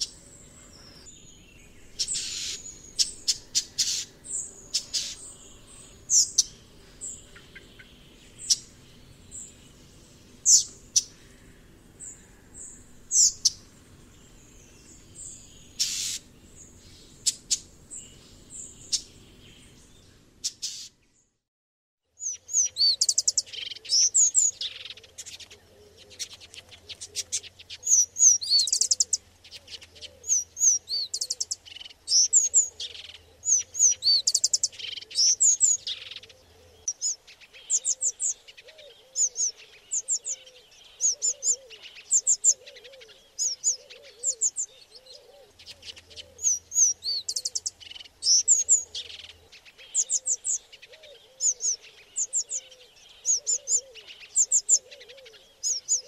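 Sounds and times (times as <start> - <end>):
bird chirping and trilling: 0.0 - 11.4, 12.0 - 20.9, 22.2 - 25.0, 27.4 - 29.2, 30.2 - 56.0.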